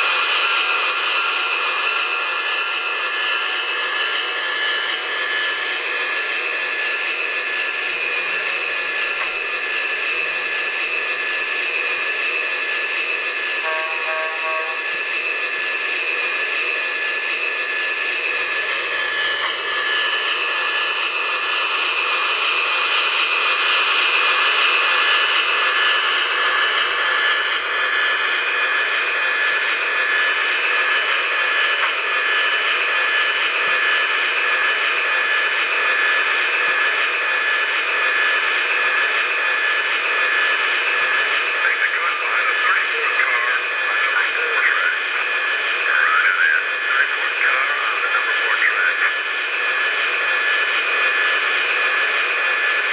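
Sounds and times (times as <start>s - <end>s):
hissing turbine whine from speaker: 0.0s - 52.9s.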